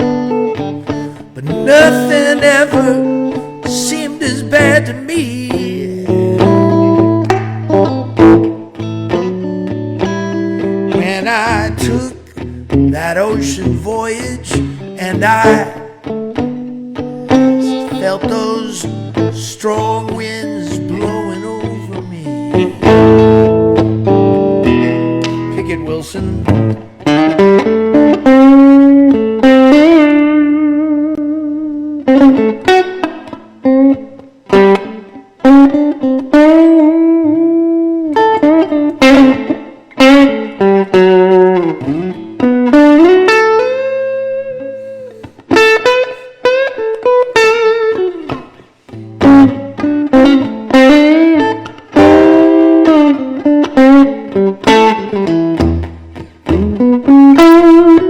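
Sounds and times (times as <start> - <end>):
electric guitar blues solo: 0.0 - 58.0.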